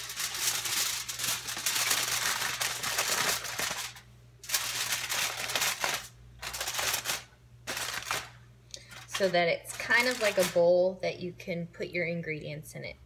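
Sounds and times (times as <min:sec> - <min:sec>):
aluminium foil crinkling: 0:00.0 - 0:10.8.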